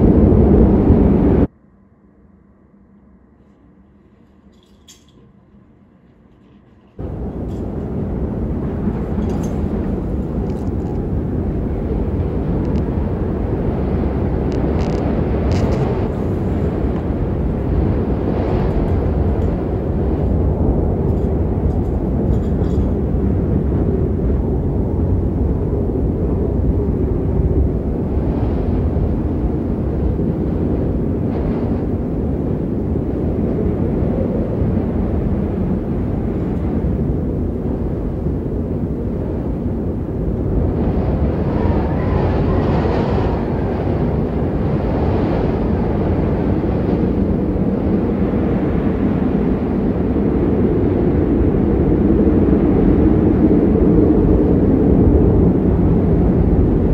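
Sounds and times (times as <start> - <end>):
strong wind on microphone: 0.0 - 56.9.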